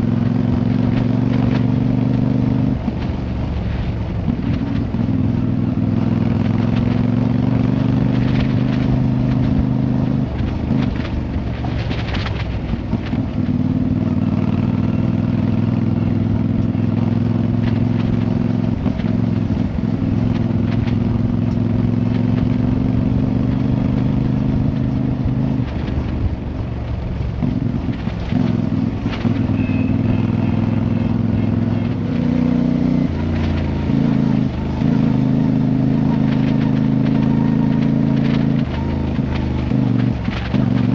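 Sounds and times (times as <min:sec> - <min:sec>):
motorcycle engine running: 0:00.0 - 0:40.9
road and wind rumble: 0:00.0 - 0:40.9.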